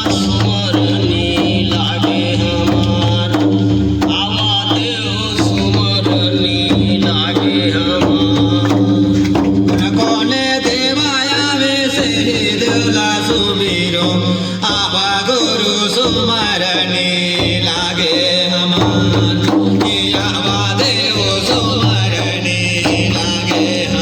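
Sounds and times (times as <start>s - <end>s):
person singing: 0.0s - 24.0s
steady drum beat: 0.0s - 24.0s.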